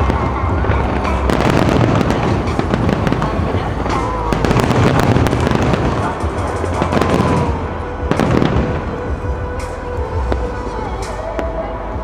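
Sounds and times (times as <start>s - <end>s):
fireworks bangs and crackles: 0.0s - 11.6s.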